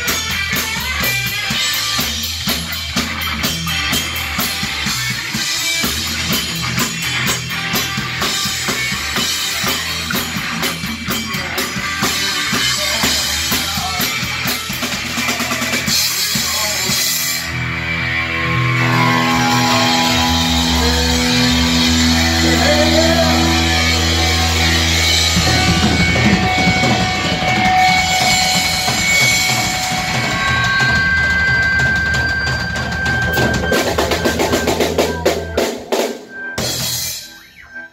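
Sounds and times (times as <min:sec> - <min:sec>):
drum kit with cymbals: 0:00.0 - 0:17.8, 0:18.8 - 0:37.6
electric guitar playing: 0:00.0 - 0:37.9.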